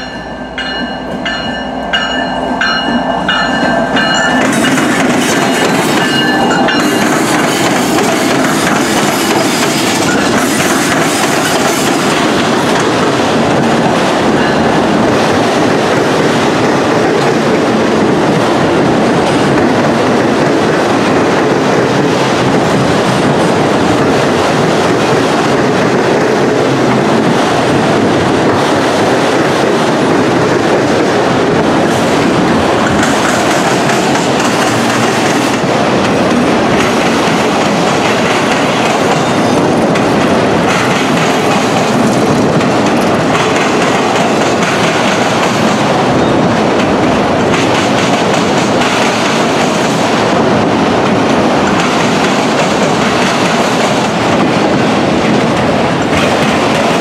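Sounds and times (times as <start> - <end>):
freight train rumbling past: 0.0 - 57.0
train wheels clacking on rails: 0.0 - 57.0.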